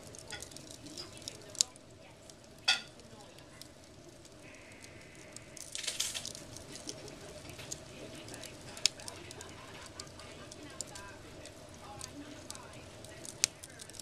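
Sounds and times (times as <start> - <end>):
hissing from fire: 0.0 - 14.0
sharp pops of burning wood: 0.0 - 14.0
wood logs crackling in fireplace: 0.0 - 14.0.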